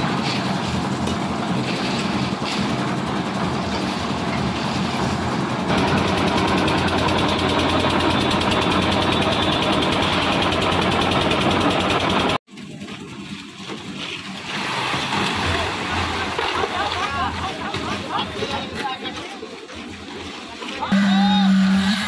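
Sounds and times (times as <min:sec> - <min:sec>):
concrete mixer engine running: 0:00.0 - 0:22.0.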